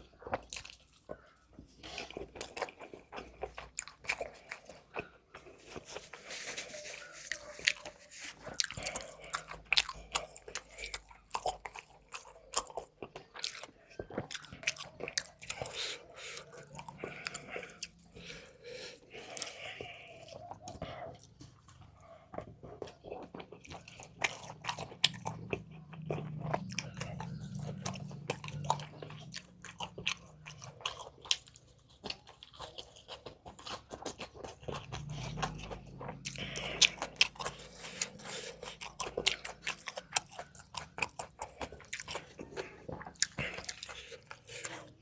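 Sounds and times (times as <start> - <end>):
person chewing crunchy food: 0.0 - 45.0.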